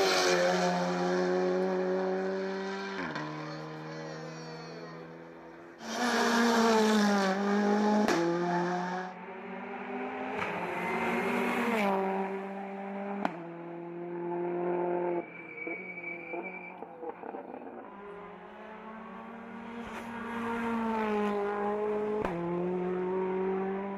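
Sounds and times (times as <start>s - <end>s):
race car engine passing: 0.0s - 23.9s.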